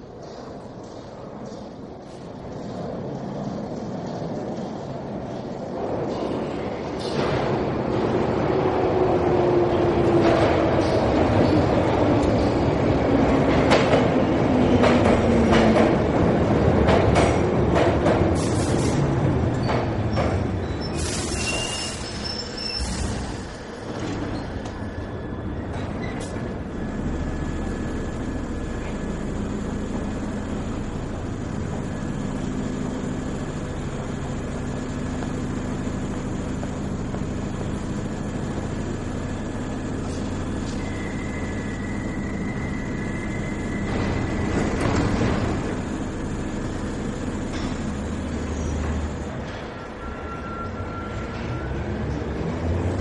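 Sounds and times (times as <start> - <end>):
train rumble with engine hum: 0.0 - 53.0.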